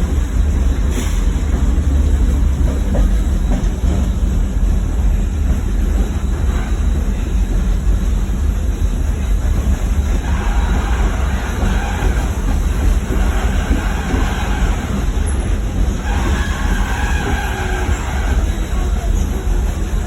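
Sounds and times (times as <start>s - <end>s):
steam train rumbling on rails: 0.0s - 20.0s.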